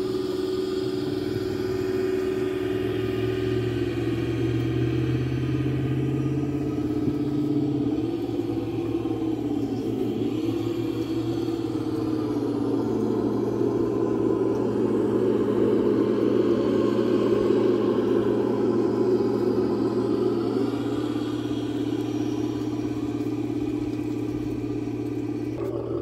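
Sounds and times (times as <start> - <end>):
golf cart engine droning: 0.0 - 26.0.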